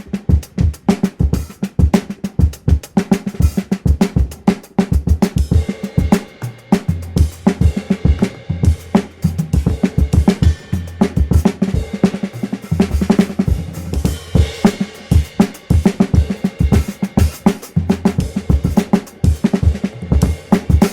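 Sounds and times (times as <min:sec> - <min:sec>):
drum kit played fast: 0:00.0 - 0:20.9.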